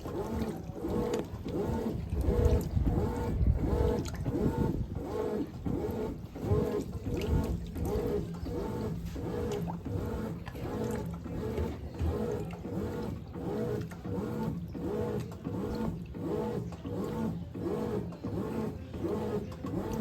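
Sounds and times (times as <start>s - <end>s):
washing machine motor whirring: 0.0s - 20.0s.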